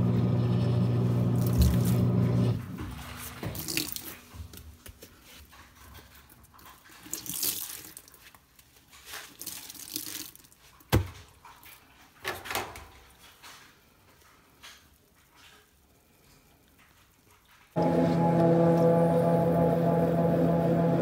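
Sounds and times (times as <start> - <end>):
wet sponges squelching: 1.3 - 12.2, 12.9 - 21.0.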